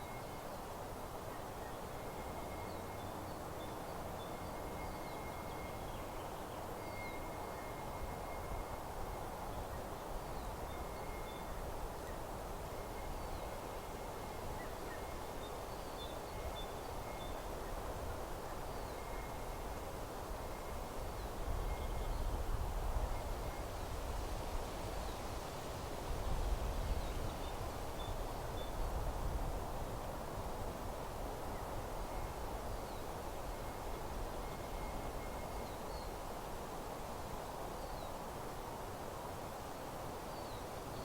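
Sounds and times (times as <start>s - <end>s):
steady rustling hiss: 0.0s - 41.0s
wind rumble on microphone: 0.0s - 41.0s.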